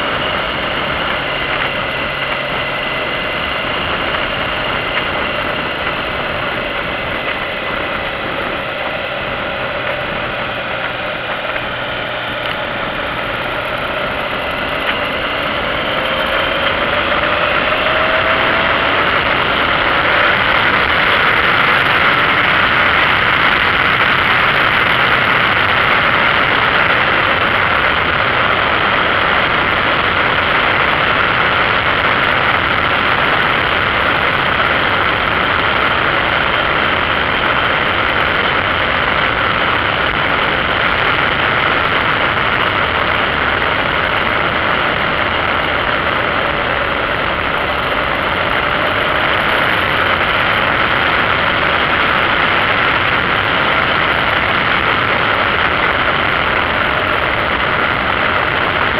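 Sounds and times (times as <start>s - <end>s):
heavy wind noise: 0.0s - 58.9s
motorcycle engine running: 0.0s - 58.9s.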